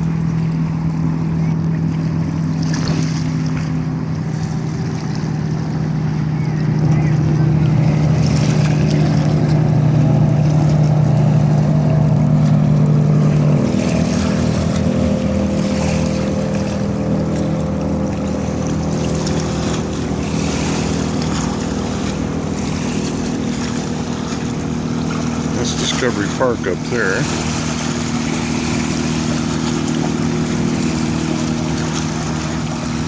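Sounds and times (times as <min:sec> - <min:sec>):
motorboat engine drone: 0:00.0 - 0:33.0
water and wind hiss: 0:00.0 - 0:33.0.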